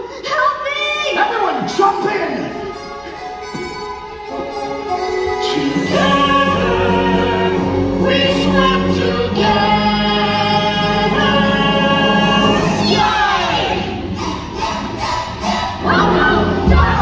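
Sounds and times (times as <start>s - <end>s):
stage musical music: 0.0s - 17.0s
voices singing held notes together: 2.5s - 17.0s.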